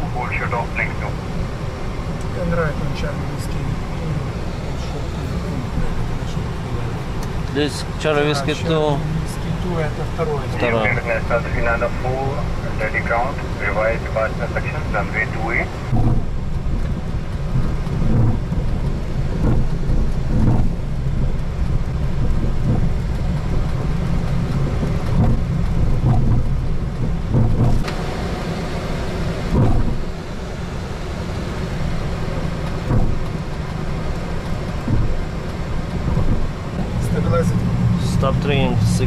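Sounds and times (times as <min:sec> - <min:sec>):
aircraft cockpit rumble: 0:00.0 - 0:39.0.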